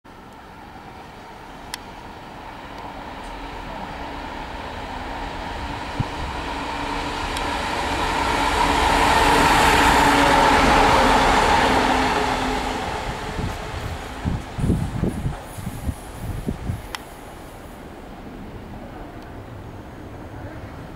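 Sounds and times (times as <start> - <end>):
diesel train passing: 0.1 - 20.9.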